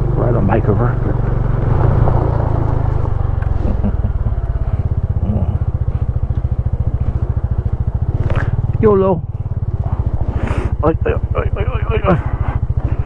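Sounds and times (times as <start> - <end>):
single-cylinder engine running: 0.0 - 13.0.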